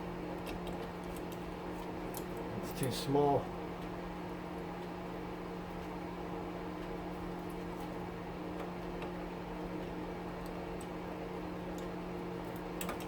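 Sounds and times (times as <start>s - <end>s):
stove fan humming: 0.0s - 13.0s.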